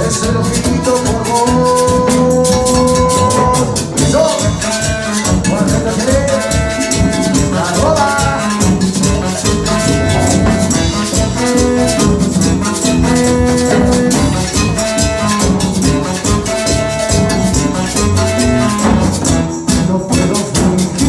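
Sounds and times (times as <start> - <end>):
band playing latin dance music: 0.0 - 21.0
fast busy percussion: 0.0 - 21.0.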